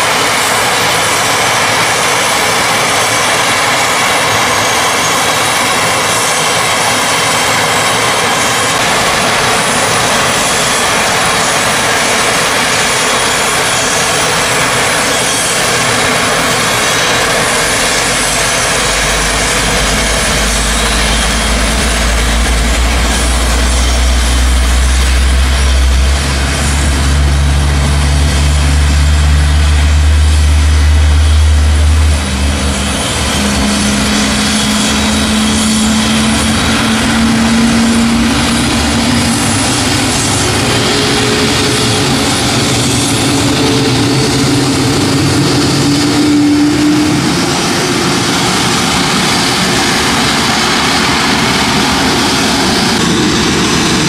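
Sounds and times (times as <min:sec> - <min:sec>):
deep tow tug engine drone: 0:00.0 - 0:54.0
higher steady tones: 0:00.0 - 0:54.0
jet aircraft noise: 0:00.0 - 0:54.0.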